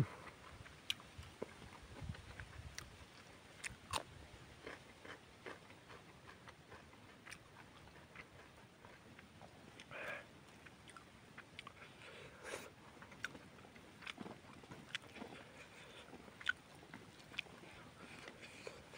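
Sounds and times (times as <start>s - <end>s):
person chewing: 0.0s - 18.9s.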